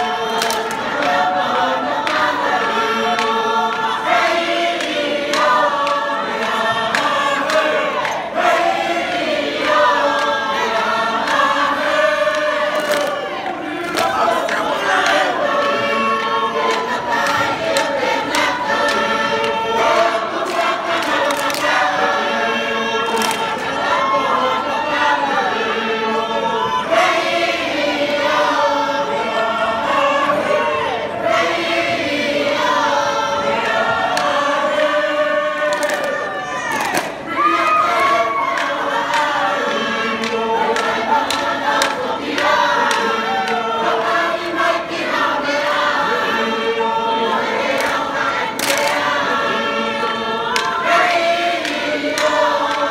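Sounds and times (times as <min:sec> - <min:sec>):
group singing in harmony: 0:00.0 - 0:52.9.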